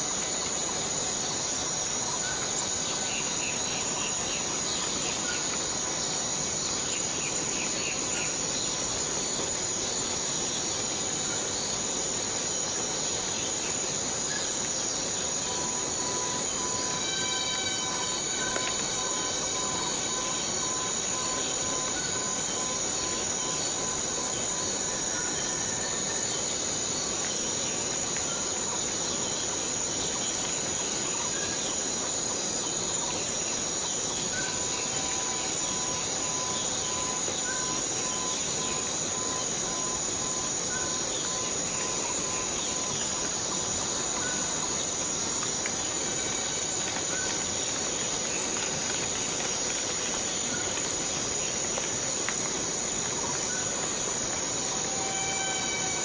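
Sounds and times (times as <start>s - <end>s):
high-pitched insect drone: 0.0s - 56.0s
steady hiss of rain: 0.0s - 56.0s.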